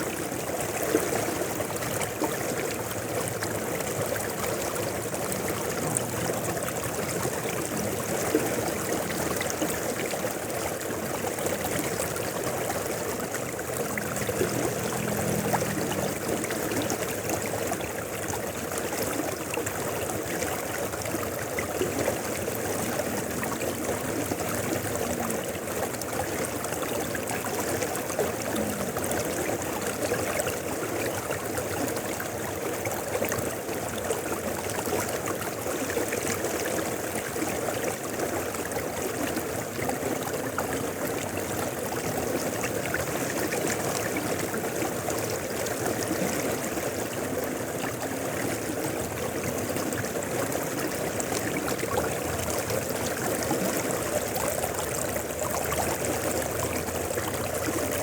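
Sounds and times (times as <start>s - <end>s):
mountain river rushing: 0.0s - 58.0s
water splashing and trickling: 0.0s - 58.0s.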